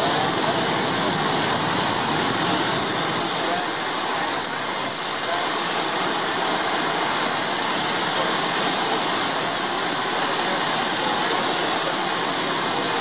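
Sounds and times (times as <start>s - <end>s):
fire truck pumps roaring: 0.0s - 13.0s.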